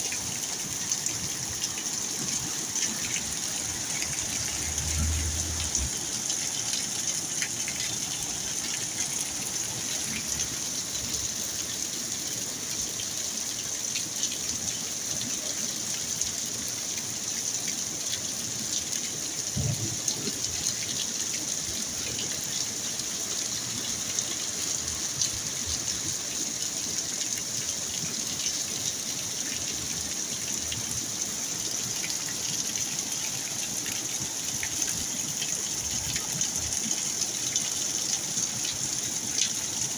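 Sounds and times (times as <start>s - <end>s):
water gushing and splashing: 0.0s - 14.6s, 17.8s - 39.9s
rain falling: 0.0s - 39.9s.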